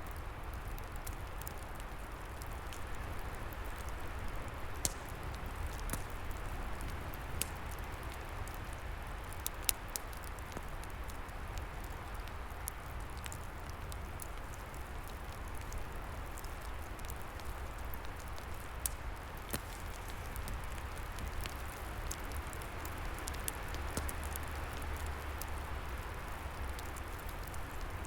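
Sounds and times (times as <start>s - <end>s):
low rumble of wind: 0.0s - 28.0s
wood fire crackling and popping: 0.0s - 28.0s.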